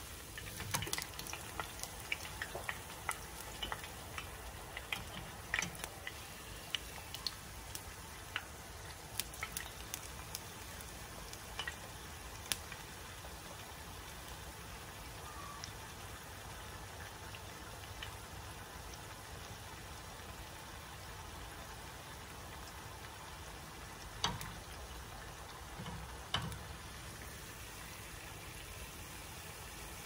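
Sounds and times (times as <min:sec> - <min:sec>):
oil popping and crackling: 0:00.0 - 0:30.0
tortilla sizzling in oil: 0:00.0 - 0:30.0.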